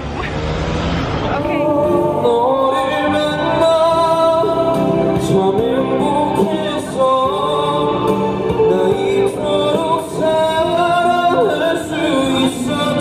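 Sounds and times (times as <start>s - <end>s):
musical accompaniment: 1.3s - 13.0s
men singing into microphones: 1.4s - 13.0s.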